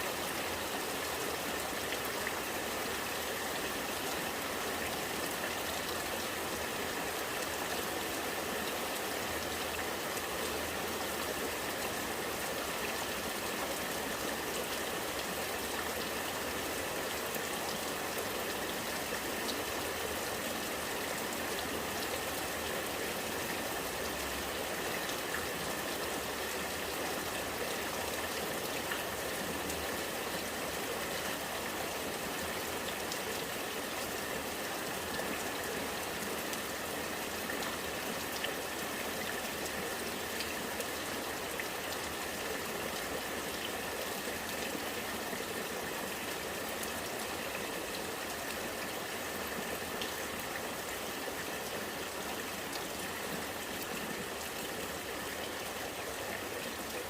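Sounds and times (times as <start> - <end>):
rain falling: 0.0 - 57.0
rainwater running and gurgling: 0.0 - 57.0.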